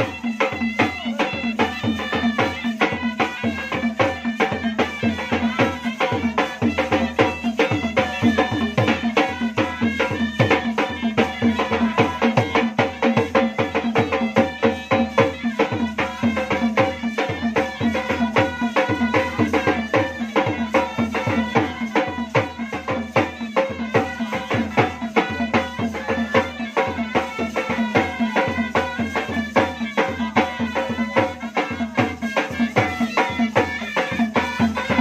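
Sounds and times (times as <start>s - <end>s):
drums beating fast rhythm: 0.0s - 35.0s.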